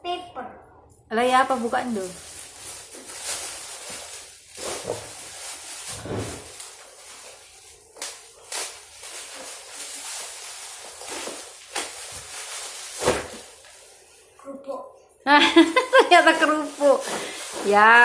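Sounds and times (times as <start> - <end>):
plastic packaging crinkling: 1.5 - 14.0, 15.7 - 18.0.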